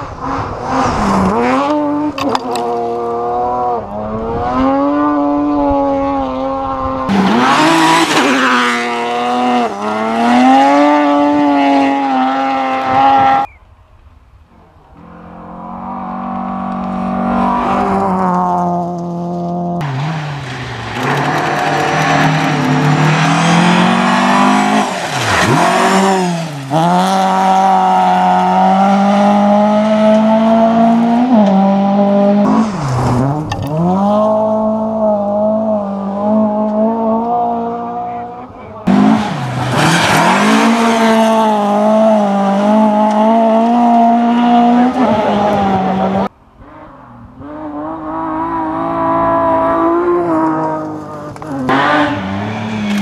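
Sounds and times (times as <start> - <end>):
rally cars passing at full throttle: 0.0 - 53.0.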